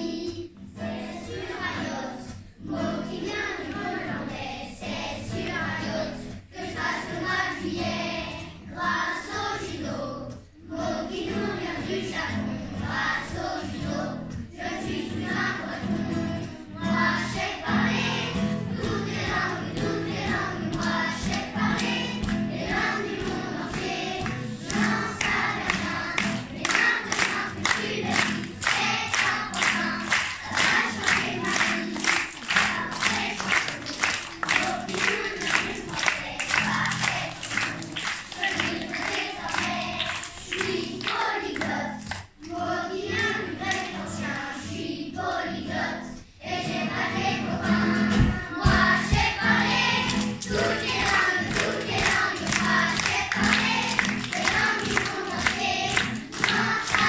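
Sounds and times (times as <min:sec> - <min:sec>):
acoustic guitar: 0:00.0 - 0:57.0
children's choir singing: 0:00.0 - 0:57.0.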